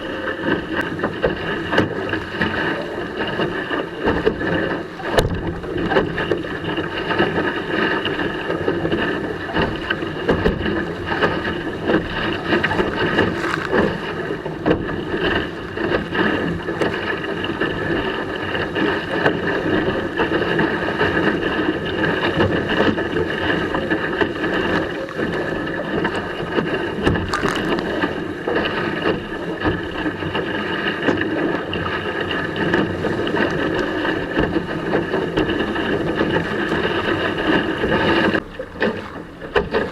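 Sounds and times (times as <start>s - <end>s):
water splashing along hull: 0.0s - 39.9s
wind buffeting microphone: 0.0s - 39.9s.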